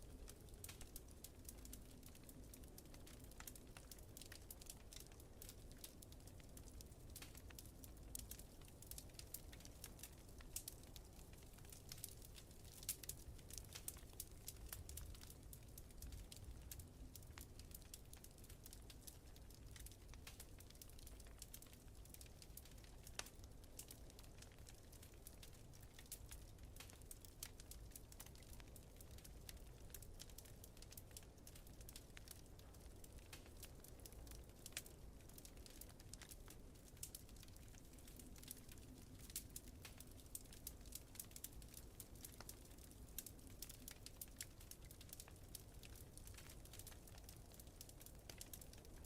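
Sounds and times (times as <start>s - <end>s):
faint wood fire crackling: 0.0s - 49.0s.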